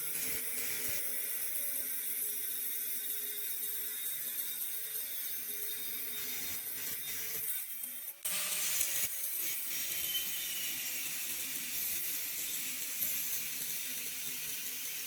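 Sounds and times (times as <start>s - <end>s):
angle grinder on steel: 0.0s - 15.0s.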